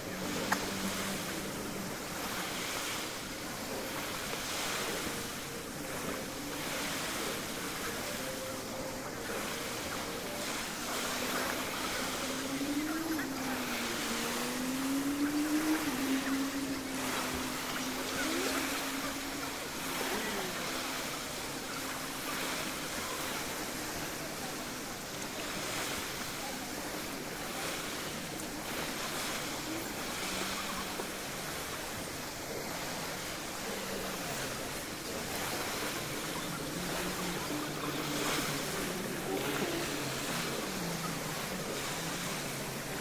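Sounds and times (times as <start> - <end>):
small waves washing onto beach: 0.0 - 43.0.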